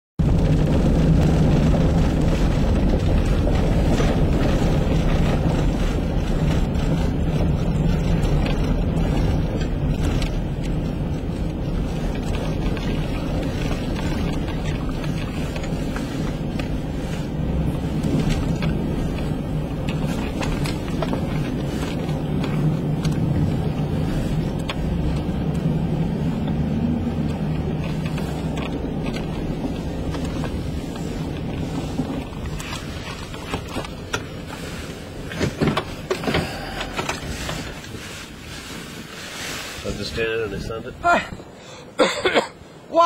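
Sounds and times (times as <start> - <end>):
strong wind buffeting microphone: 0.2 - 42.0.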